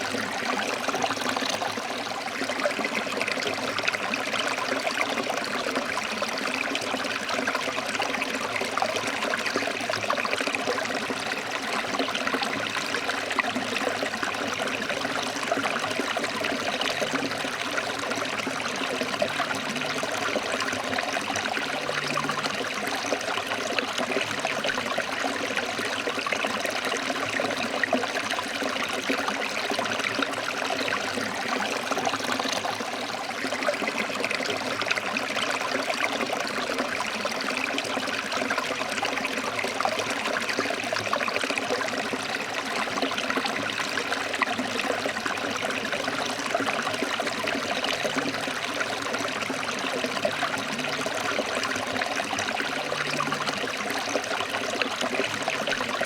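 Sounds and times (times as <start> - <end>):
stream splashing over rocks: 0.0 - 56.0.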